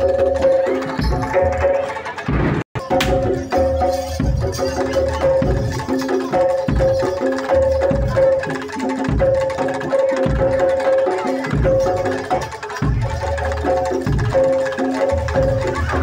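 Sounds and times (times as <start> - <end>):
hand drums beating: 0.0 - 16.0.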